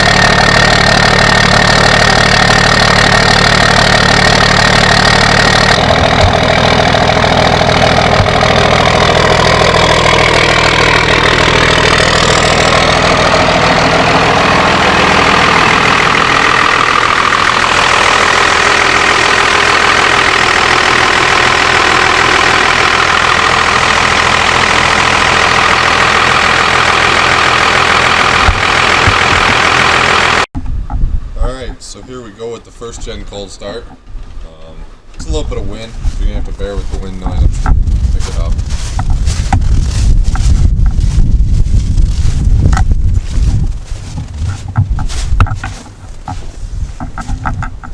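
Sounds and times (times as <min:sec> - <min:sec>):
diesel engine idling: 0:00.0 - 0:30.5, 0:34.6 - 0:47.9.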